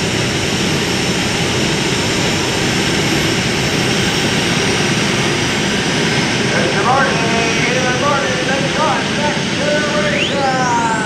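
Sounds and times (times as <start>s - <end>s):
tractor engines idling: 0.0s - 11.0s.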